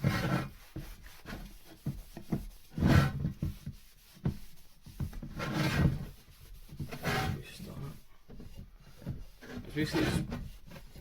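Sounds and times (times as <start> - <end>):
cloth rubbing a part: 0.0 - 11.0.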